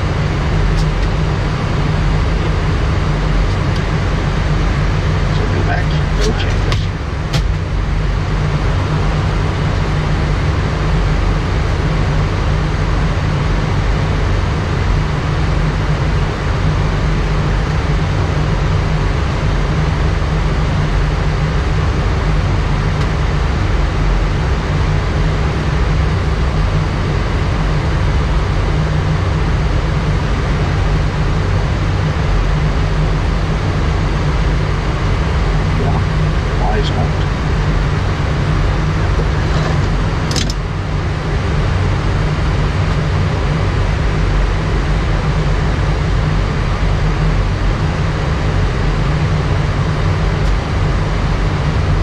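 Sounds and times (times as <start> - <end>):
rush of air over cockpit: 0.0 - 52.0.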